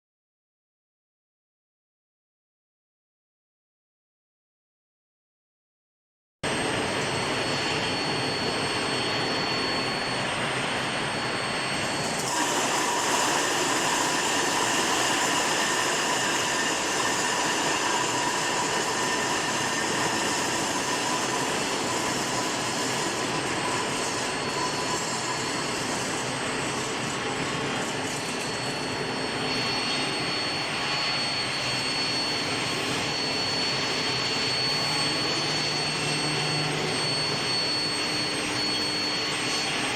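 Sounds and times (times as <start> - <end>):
high-pitched machine whine: 6.4 - 39.9
loud machine noise: 6.4 - 39.9.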